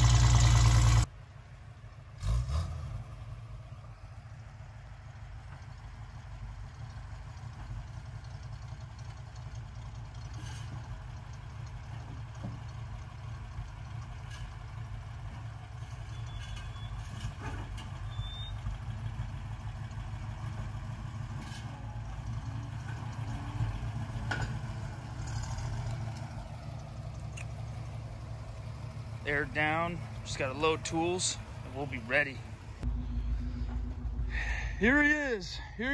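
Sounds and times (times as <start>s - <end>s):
truck engine running at low speed: 0.0s - 35.9s.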